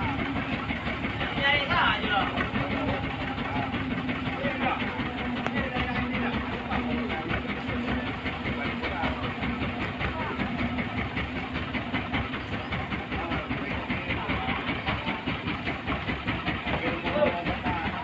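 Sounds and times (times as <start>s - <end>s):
heavy engine clattering: 0.0s - 18.0s.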